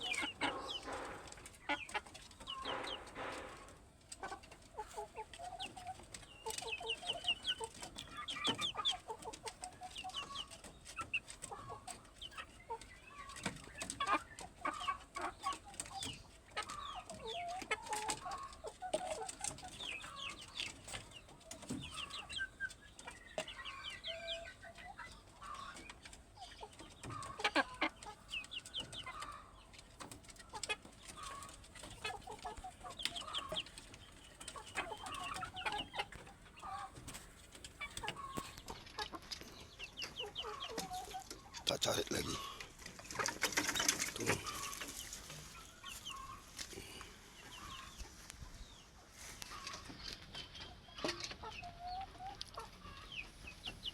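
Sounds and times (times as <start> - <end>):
chickens clucking: 0.0 - 53.9
chicks peeping: 0.0 - 53.9.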